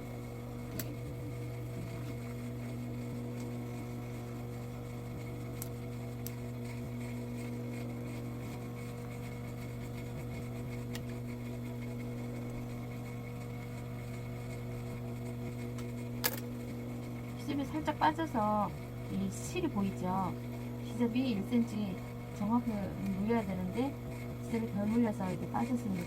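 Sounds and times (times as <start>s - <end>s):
sewing machine humming: 0.0s - 26.0s.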